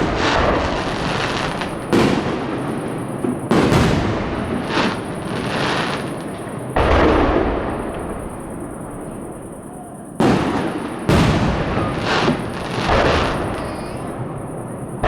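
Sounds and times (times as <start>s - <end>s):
fireworks bangs with echoing rumble: 0.0s - 15.0s
fireworks crackle: 0.0s - 15.0s
small fireworks pops: 0.0s - 15.0s.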